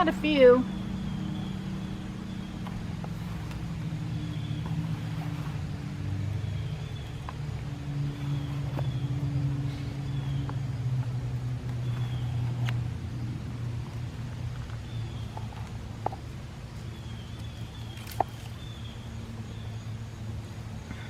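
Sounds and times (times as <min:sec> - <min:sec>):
engine humming steadily: 0:00.0 - 0:21.0.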